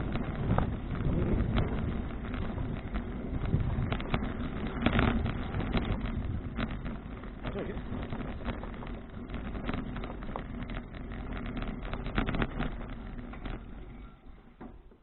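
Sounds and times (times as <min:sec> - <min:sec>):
wind buffeting microphone: 0:00.0 - 0:14.1
bicycle rattling clicks: 0:00.0 - 0:15.0
road rumble: 0:00.0 - 0:15.0.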